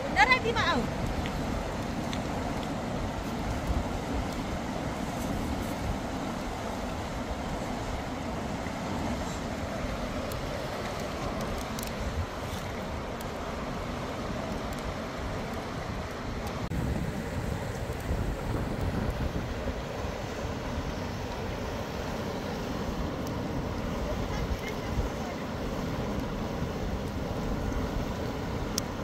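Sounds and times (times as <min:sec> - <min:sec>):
river rushing over rocks: 0:00.0 - 0:29.0
wind rumbling on microphone: 0:00.0 - 0:29.0.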